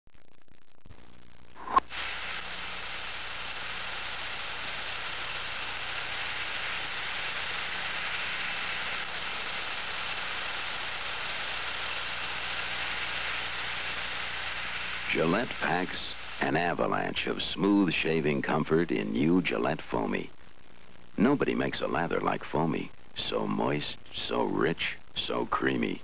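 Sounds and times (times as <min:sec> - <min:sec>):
steady rushing hiss: 0:01.0 - 0:26.0.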